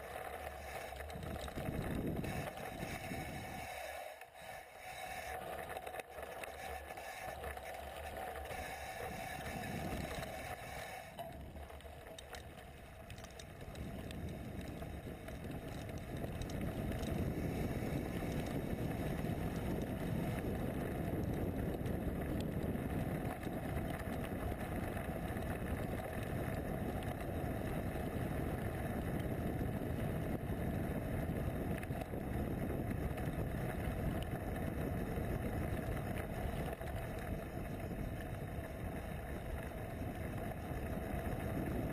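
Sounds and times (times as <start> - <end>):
tyres rolling over gravel: 0.0 - 3.6, 5.0 - 41.9
wind on microphone: 0.6 - 3.9, 8.5 - 11.6, 13.1 - 41.9.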